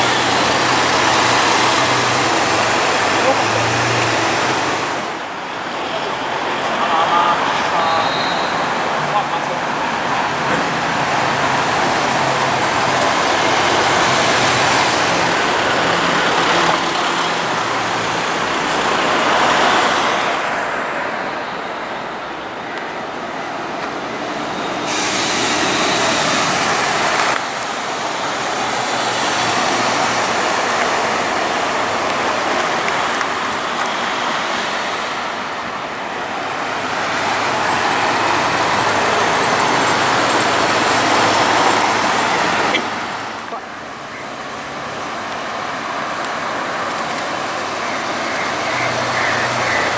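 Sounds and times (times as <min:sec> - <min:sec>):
city buses driving past: 0:00.0 - 0:49.9
road traffic and tyre noise: 0:00.0 - 0:49.9.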